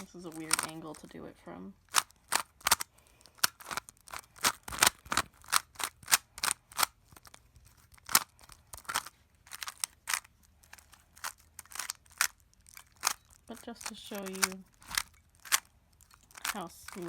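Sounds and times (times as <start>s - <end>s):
speed cube clicking: 0.0s - 1.1s, 1.9s - 17.0s.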